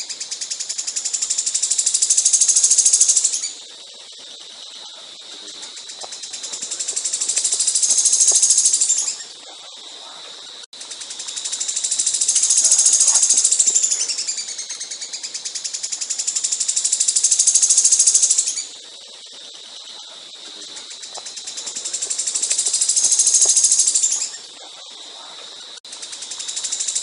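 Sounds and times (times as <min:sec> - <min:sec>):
songbird singing fast trills: 0:00.0 - 0:09.9, 0:10.8 - 0:27.0.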